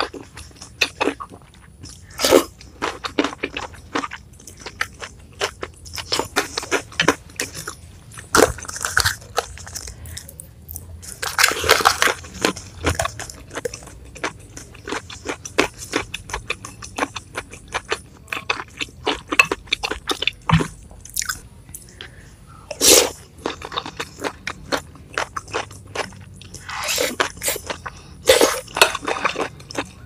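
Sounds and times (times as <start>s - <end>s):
chewing and crunching: 0.0s - 30.0s.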